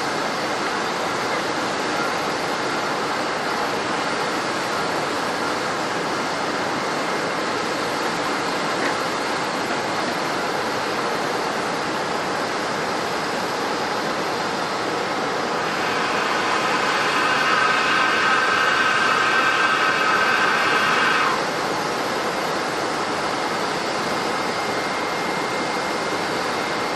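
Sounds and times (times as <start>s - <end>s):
jet engine whine: 0.0s - 26.9s
jet engines rushing: 0.0s - 26.9s.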